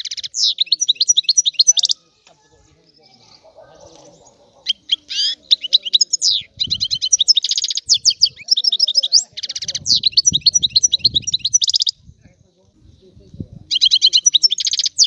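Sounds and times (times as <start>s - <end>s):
finch singing twittering trills: 0.0s - 15.0s.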